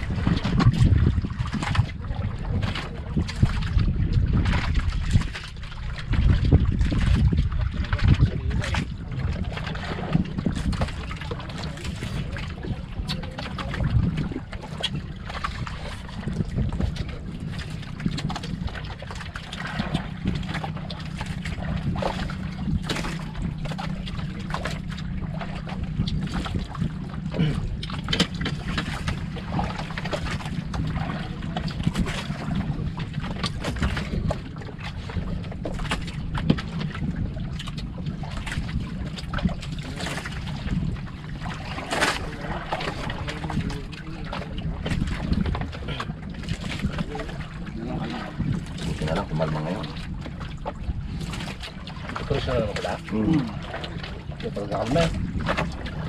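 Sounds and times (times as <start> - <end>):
low engine drone: 0.0 - 56.0
water against hull: 0.0 - 56.0
wind on microphone: 0.0 - 56.0.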